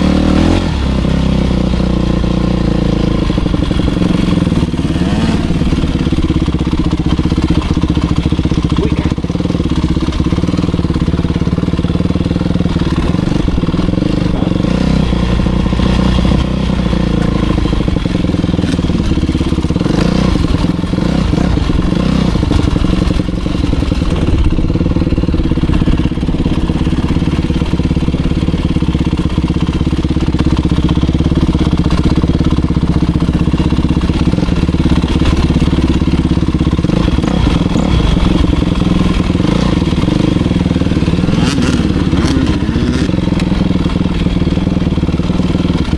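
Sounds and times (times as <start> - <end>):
motocross bike engine: 0.0 - 45.9.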